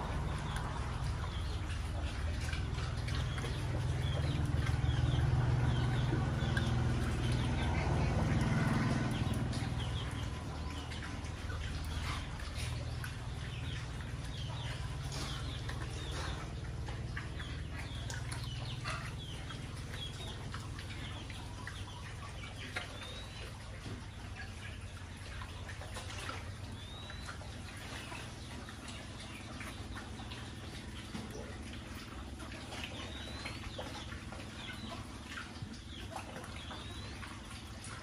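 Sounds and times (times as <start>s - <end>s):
pigs chewing and slurping: 0.0s - 38.0s.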